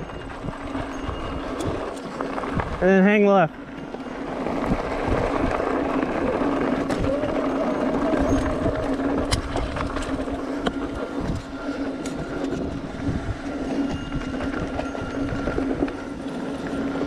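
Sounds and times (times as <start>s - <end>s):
bike tyre rumble and rattle: 0.0s - 17.0s.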